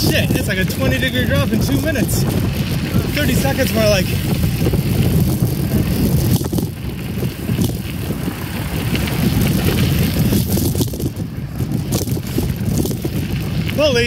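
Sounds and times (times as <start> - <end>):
tyres rumbling on gravel: 0.0 - 14.0
wind on microphone: 0.0 - 14.0.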